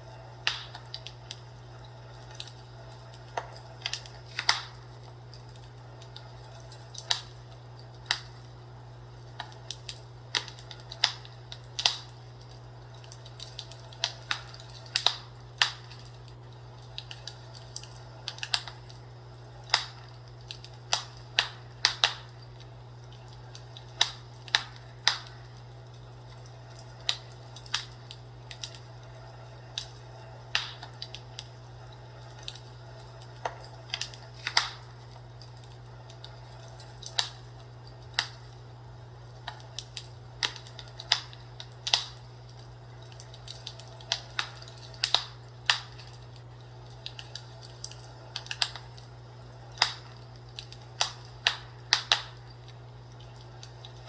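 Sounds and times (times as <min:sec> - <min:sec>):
fireplace crackling and popping: 0:00.0 - 0:54.0
steady low hum: 0:00.0 - 0:54.0.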